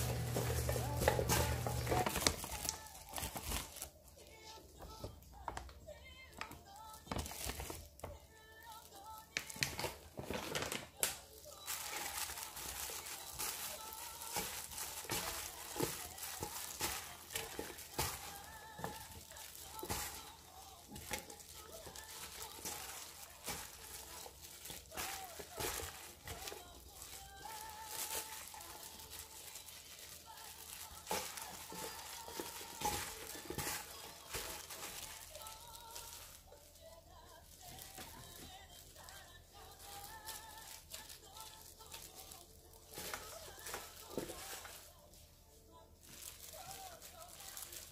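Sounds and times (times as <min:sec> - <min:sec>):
plastic glove crinkling: 0:00.0 - 0:47.9.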